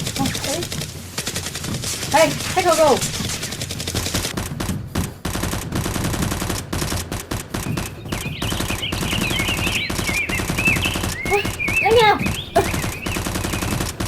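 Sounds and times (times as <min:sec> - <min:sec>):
rapid automatic gunfire: 0:00.0 - 0:14.0.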